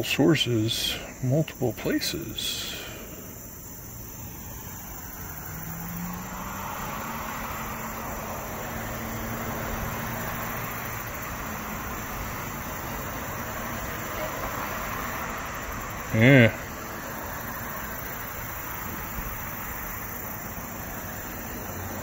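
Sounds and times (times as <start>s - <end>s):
crickets chirping: 0.0s - 22.0s
car passing: 2.2s - 22.0s.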